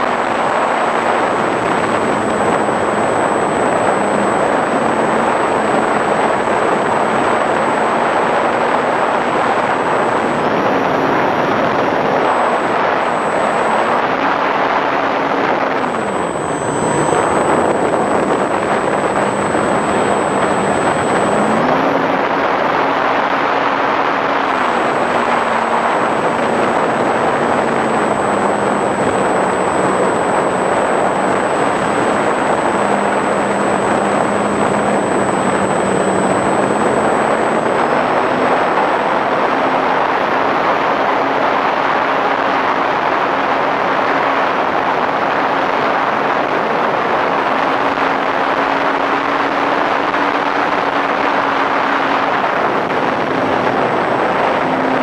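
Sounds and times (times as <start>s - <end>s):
model plane motor humming: 0.0s - 55.0s.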